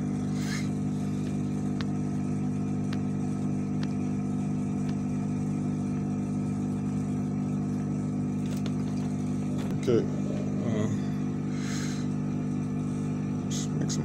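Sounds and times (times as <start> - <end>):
mechanical hum of workbench equipment: 0.0 - 14.0.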